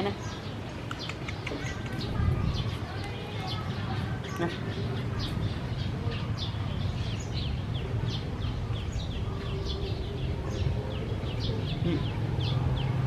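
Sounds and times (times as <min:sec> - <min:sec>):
small birds chirping: 0:00.0 - 0:13.0
steady low rumble: 0:00.8 - 0:13.0.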